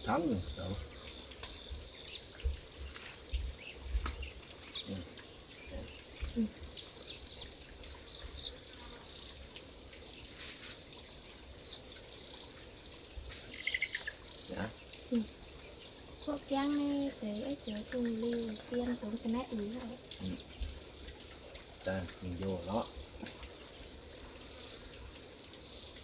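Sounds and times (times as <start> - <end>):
bird-like chirps: 0.0 - 9.5, 11.7 - 23.7
insects chirring: 0.0 - 26.0.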